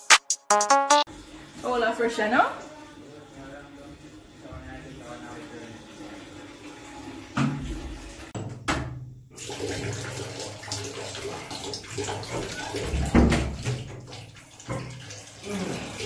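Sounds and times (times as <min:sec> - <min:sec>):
shower water running: 0:01.1 - 0:08.4, 0:09.4 - 0:16.0.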